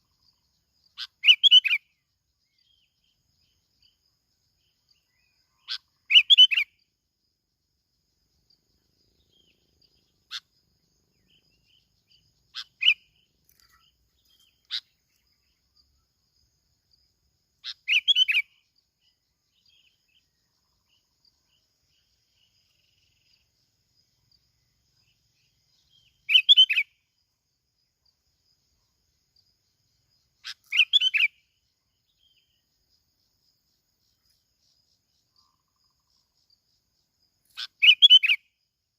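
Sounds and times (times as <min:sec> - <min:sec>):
bird chirping: 0:00.0 - 0:38.8.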